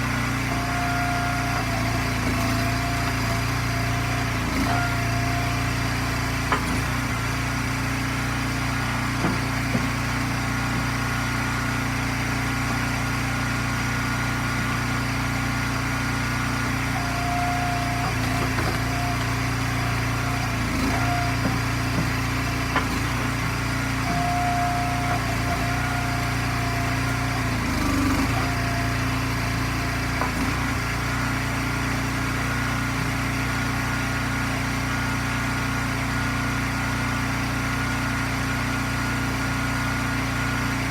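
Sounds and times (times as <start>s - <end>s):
gas engine running: 0.0s - 40.9s.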